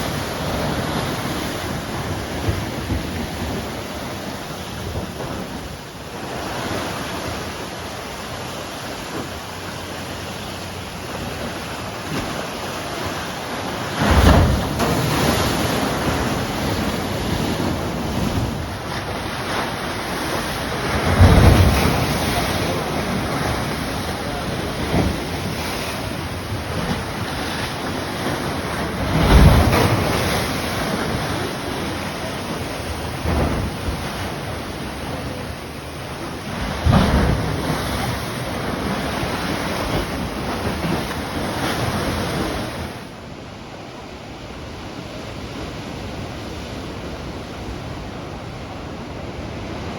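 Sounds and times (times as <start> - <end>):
waves breaking heavily: 0.0 - 49.9.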